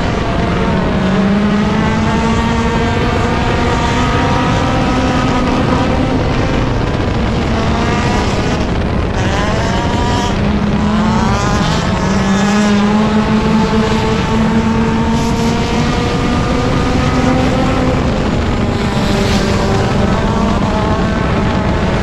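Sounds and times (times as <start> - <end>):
race car engine running hard: 0.0 - 22.0.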